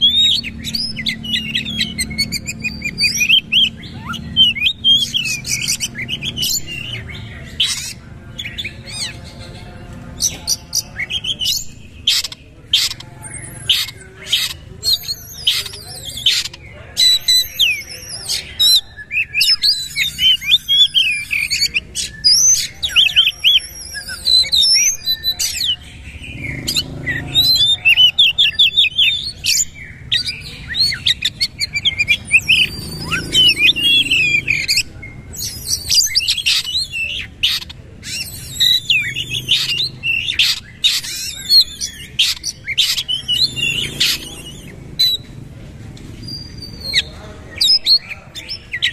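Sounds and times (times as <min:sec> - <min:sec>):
magpie-robin singing: 0:00.0 - 0:48.9.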